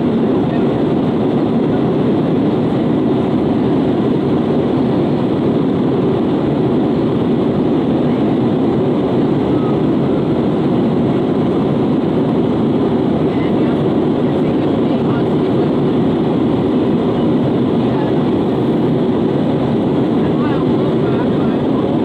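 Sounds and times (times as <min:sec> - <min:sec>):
airliner cabin engine and airflow noise: 0:00.0 - 0:22.0.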